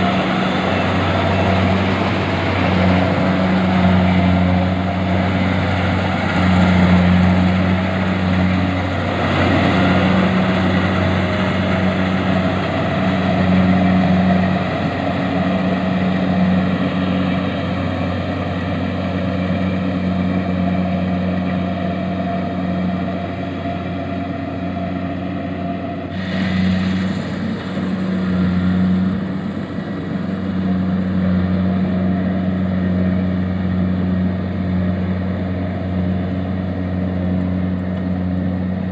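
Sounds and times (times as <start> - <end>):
harvesting machine engine humming: 0.0 - 38.9.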